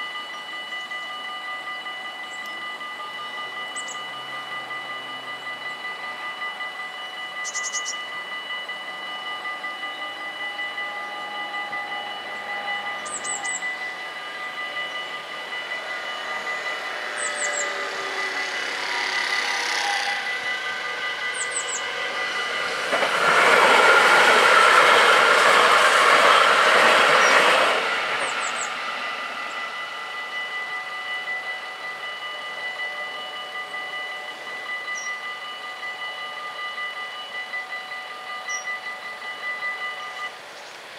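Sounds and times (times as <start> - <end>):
level crossing bells ringing: 0.0 - 40.5
electric train passing: 0.0 - 40.9.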